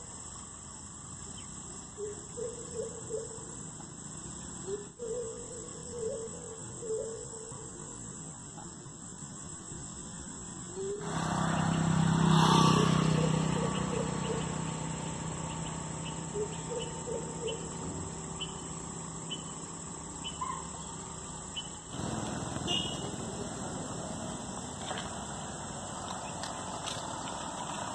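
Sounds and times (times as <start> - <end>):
crickets chirring: 0.0 - 27.9.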